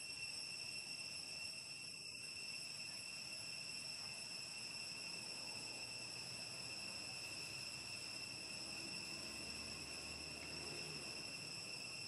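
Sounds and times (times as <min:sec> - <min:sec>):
faint outdoor hiss: 0:00.0 - 0:12.0
high-pitched insect drone: 0:00.0 - 0:12.0.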